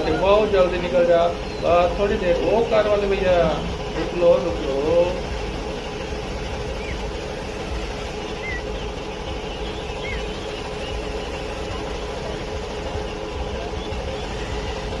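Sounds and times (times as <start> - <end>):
small birds chirping: 0.0 - 15.0
vehicle engine rumble: 0.0 - 15.0.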